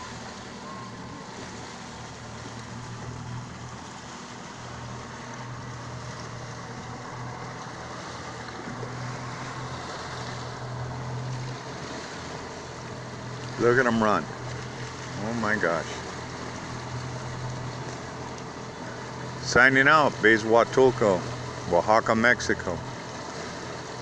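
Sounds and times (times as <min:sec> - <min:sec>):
motorboat engine humming: 0:00.0 - 0:24.0
water noise: 0:00.0 - 0:24.0
wind: 0:00.0 - 0:24.0.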